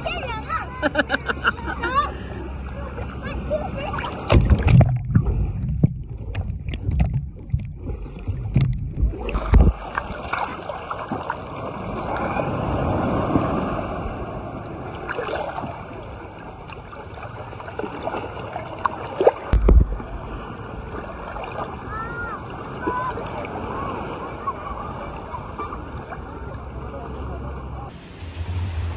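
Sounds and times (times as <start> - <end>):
water sloshing and splashing: 1.5 - 28.9.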